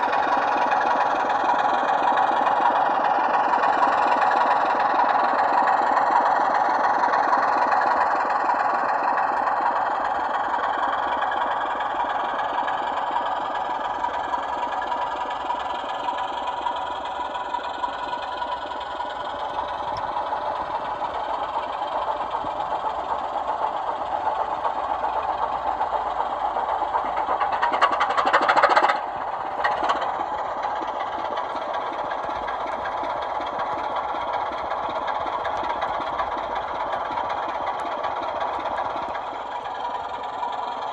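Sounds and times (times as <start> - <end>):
diesel engine sound from small speakers: 0.0 - 40.9.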